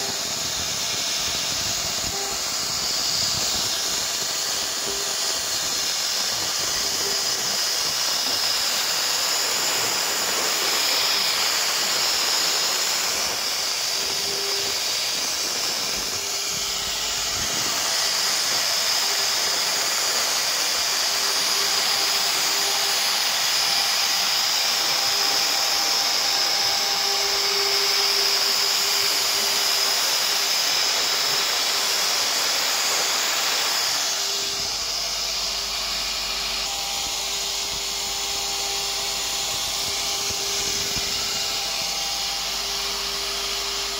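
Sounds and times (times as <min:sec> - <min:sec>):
bit cutting wood hiss: 0:00.0 - 0:43.9
router spindle high whine: 0:00.0 - 0:43.9.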